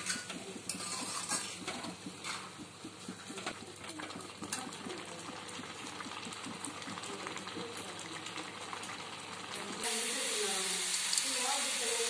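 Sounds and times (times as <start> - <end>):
thick mixture bubbling and popping: 0.0 - 9.8.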